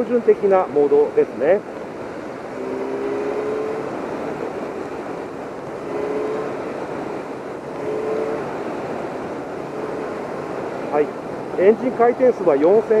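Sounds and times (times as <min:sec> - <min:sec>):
wind and road rush: 0:00.0 - 0:13.0
motorcycle engine cruising: 0:01.2 - 0:13.0.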